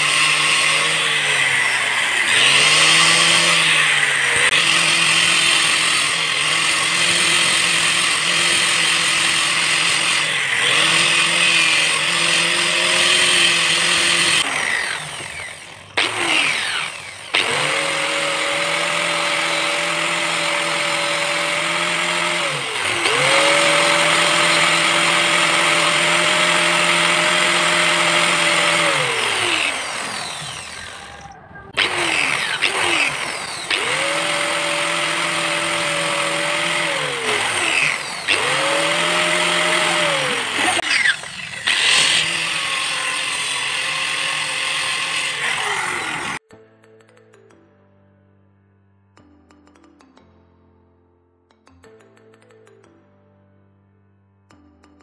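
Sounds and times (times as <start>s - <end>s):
angle grinder motor whine: 0.0s - 46.4s.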